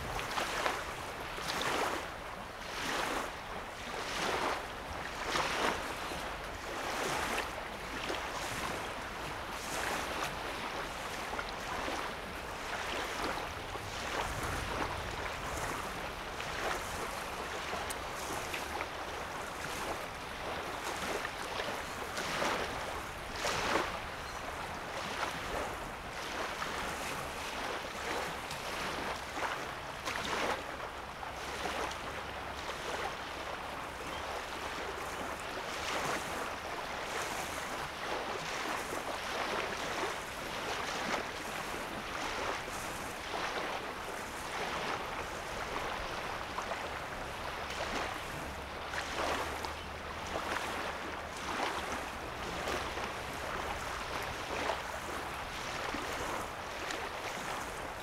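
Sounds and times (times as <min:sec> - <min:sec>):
wavelets lapping on shore: 0:00.0 - 0:58.0.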